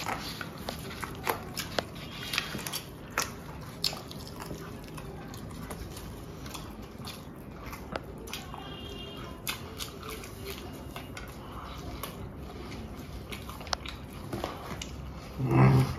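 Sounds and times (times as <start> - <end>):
person chewing food: 0.0 - 15.9.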